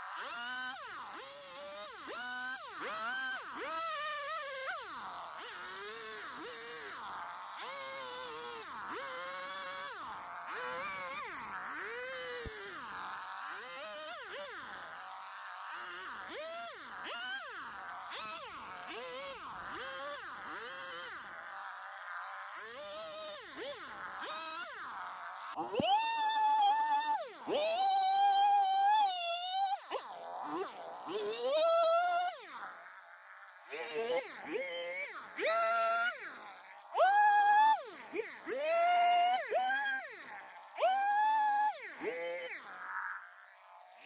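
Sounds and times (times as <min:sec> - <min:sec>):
chainsaw revving while cutting log: 0:00.0 - 0:44.0.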